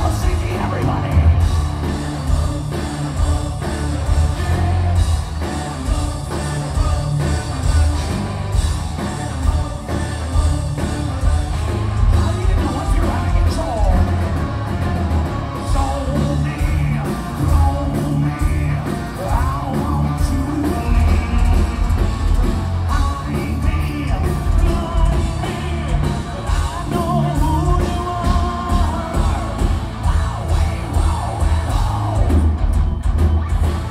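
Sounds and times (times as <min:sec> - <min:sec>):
metal band playing: 0:00.0 - 0:33.9.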